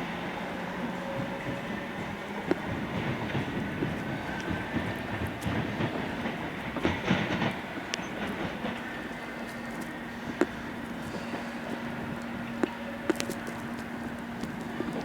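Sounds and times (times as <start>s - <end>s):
faint high whine: 0.0s - 15.0s
train wheels clicking over rail joints: 0.0s - 15.0s.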